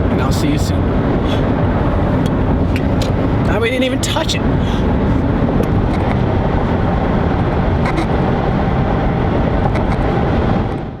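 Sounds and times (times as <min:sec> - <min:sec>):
car rushing noise: 0:00.0 - 0:03.6, 0:04.4 - 0:11.0.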